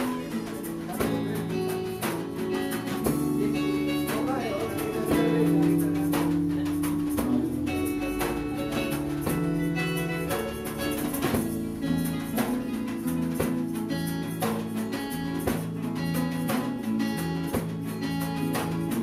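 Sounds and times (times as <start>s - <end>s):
acoustic guitar picked: 0.0s - 19.0s
light percussion: 0.0s - 19.0s.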